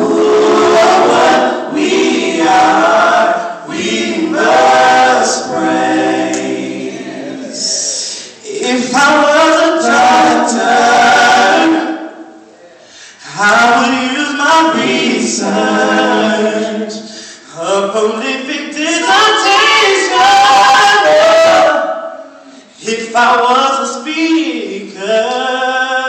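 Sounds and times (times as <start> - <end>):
male vocal group singing a cappella: 0.0 - 12.2, 13.1 - 26.0.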